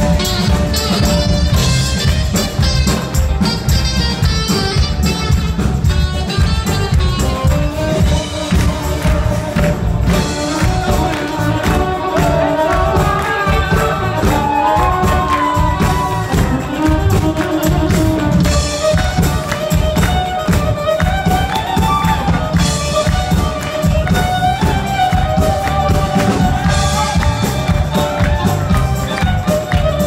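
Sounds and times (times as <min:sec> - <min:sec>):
band playing dance music: 0:00.0 - 0:30.0.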